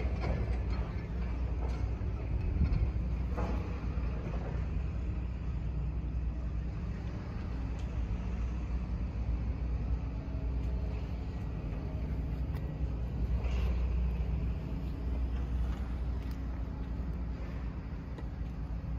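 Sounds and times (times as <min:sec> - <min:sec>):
diesel truck engine idling: 0:00.0 - 0:18.9.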